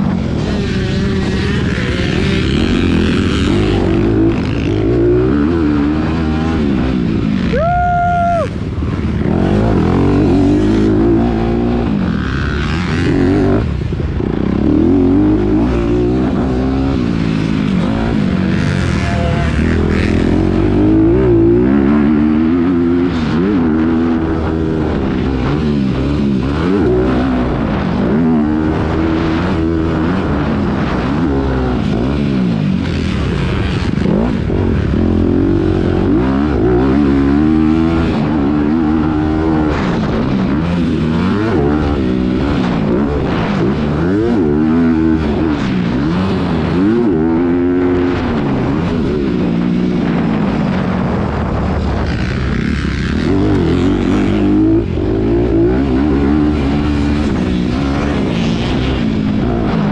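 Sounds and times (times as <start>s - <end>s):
low wind rumble: 0.0s - 59.9s
motocross bike engine revving: 0.0s - 59.9s.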